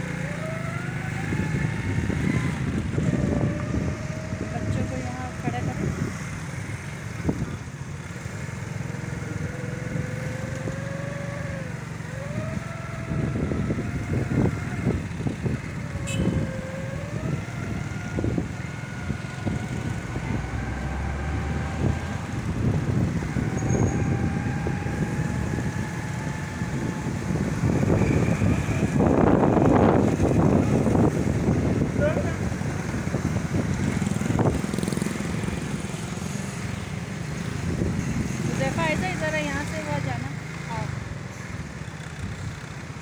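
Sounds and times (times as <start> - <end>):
vehicle engine and road noise: 0.0 - 43.0.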